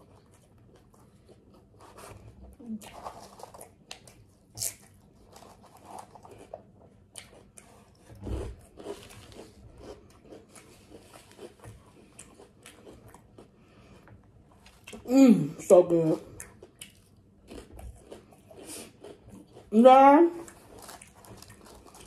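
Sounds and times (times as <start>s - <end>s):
person chewing: 0.0s - 15.1s, 16.3s - 19.7s, 20.4s - 22.0s.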